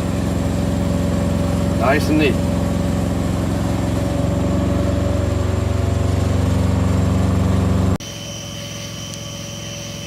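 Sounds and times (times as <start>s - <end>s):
diesel truck engine idling: 0.0s - 10.0s
hum with high whine: 0.0s - 10.0s.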